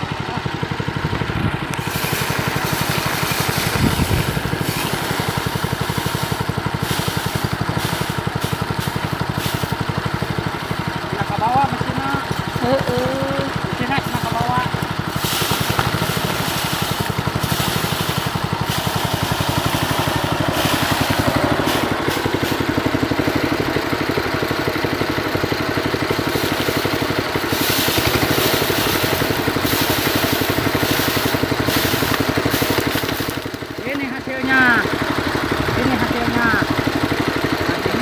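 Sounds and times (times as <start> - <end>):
small engine running: 0.0 - 38.0
rushing hiss of threshing: 1.6 - 37.6.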